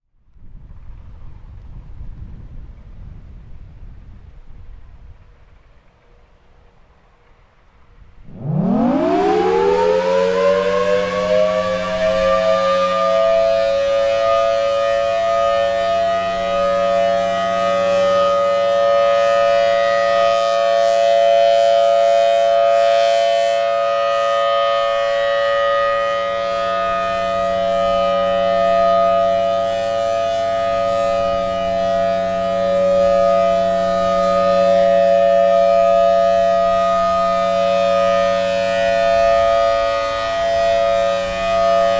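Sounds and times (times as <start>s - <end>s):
outdoor warning siren: 5.9s - 41.9s.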